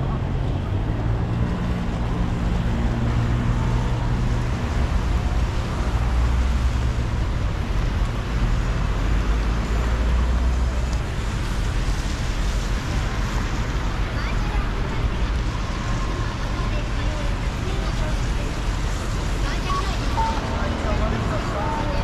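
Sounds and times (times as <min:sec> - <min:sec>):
heavy vehicle engine hum: 0:00.0 - 0:22.0
rain: 0:00.0 - 0:22.0
tyres hissing on wet road: 0:00.0 - 0:22.0.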